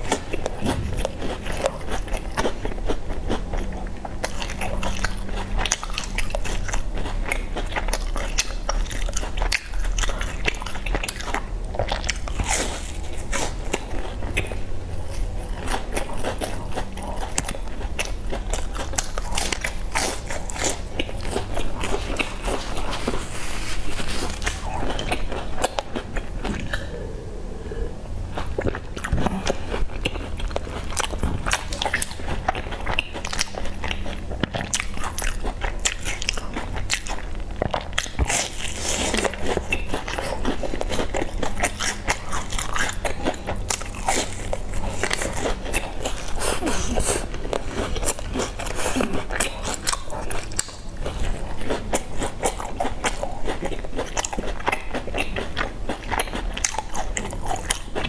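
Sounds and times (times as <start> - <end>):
crunching pastry chewing: 0.0 - 58.0.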